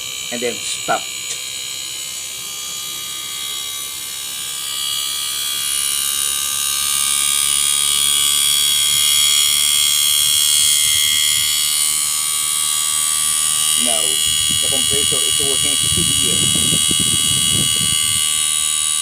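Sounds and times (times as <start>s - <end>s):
air conditioner compressor whining: 0.0s - 19.0s.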